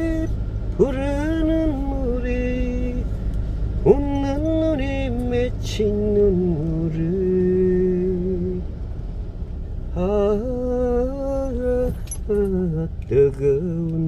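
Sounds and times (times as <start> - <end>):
person singing unaccompanied: 0.0 - 3.1, 3.8 - 8.6, 9.9 - 14.0
car driving rumble: 0.0 - 14.0.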